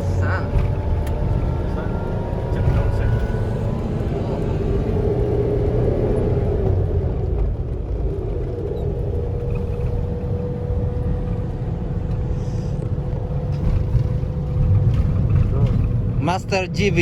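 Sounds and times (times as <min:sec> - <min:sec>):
engine and road noise rumble: 0:00.0 - 0:17.0.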